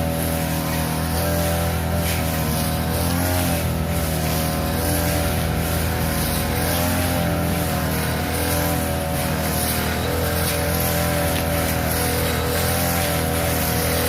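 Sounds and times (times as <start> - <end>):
grass cutter engine running: 0.0 - 14.0.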